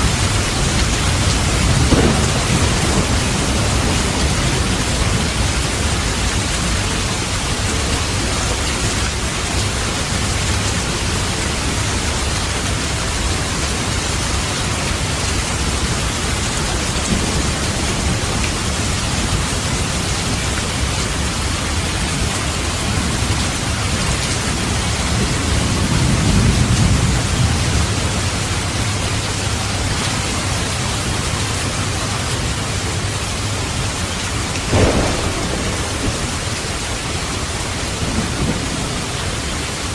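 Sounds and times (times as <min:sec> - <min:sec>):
low rumble of thunder: 0:00.0 - 0:08.8, 0:11.2 - 0:32.9, 0:34.6 - 0:39.9
steady rain hissing: 0:00.0 - 0:39.9.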